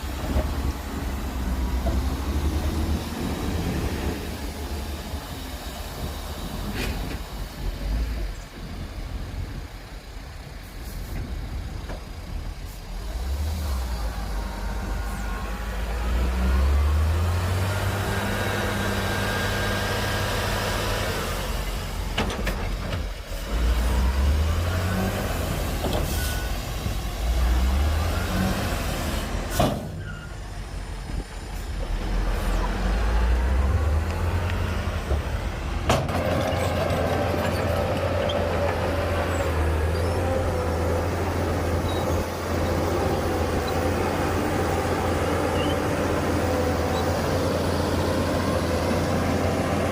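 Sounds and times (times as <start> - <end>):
diesel engine revving under load: 0.0 - 49.9.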